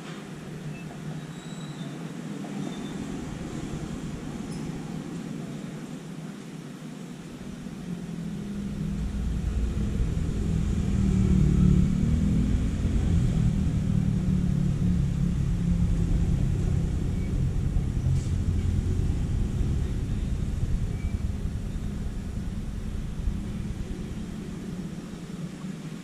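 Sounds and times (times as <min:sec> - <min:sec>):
train rumbling on bridge: 0:00.0 - 0:26.0.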